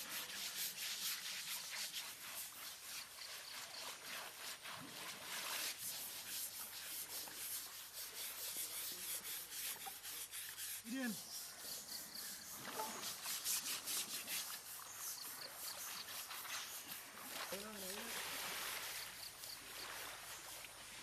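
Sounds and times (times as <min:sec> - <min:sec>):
brushes scrubbing wet hide: 0:00.0 - 0:21.0.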